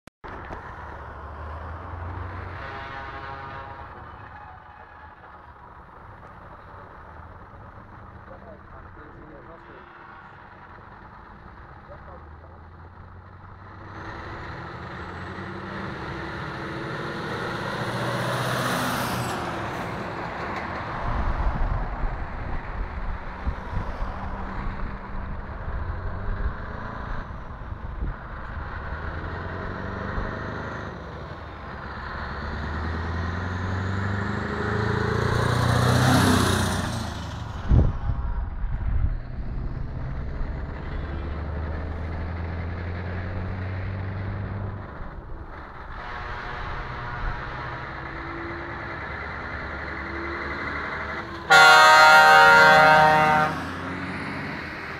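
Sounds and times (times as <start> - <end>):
trucks driving past: 0.2 - 54.9.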